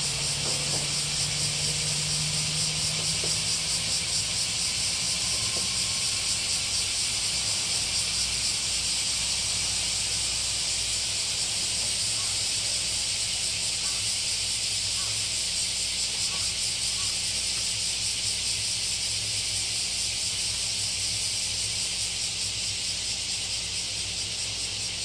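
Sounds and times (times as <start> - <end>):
diesel railcar engine drone: 0.0 - 25.0
pulsing high hiss: 0.0 - 25.0.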